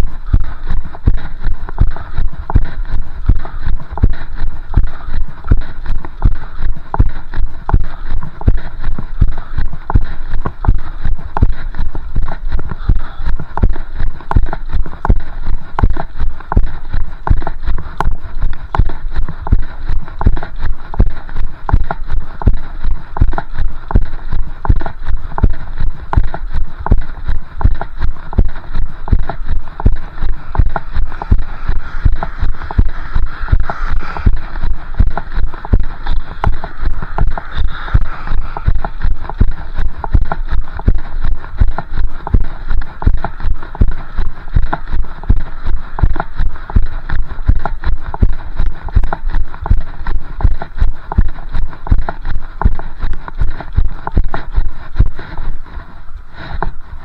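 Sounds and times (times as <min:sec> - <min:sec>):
steady hiss: 0:00.0 - 0:53.3.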